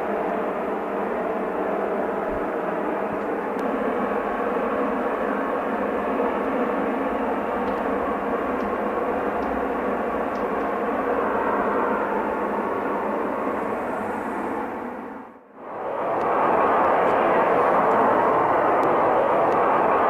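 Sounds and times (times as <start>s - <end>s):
loud rushing drone from sky: 0.0s - 20.0s.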